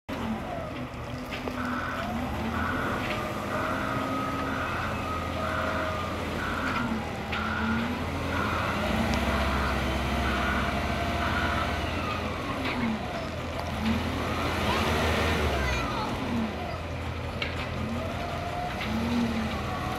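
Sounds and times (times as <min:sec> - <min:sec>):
forklift engine drone: 0:00.1 - 0:19.9.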